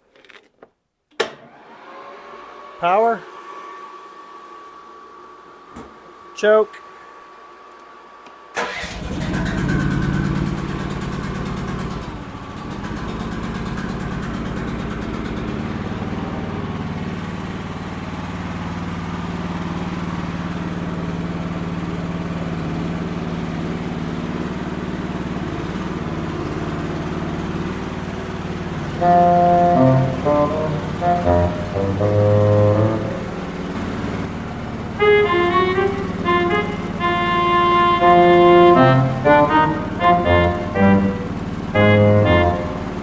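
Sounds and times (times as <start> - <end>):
small engine starting and running: 1.2 - 4.2, 8.5 - 43.0.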